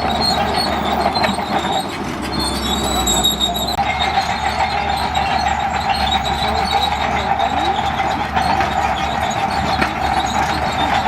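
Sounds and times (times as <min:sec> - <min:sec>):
bulldozer diesel engine drone: 0:00.0 - 0:11.0
steel tracks squealing and clanking: 0:00.0 - 0:11.0.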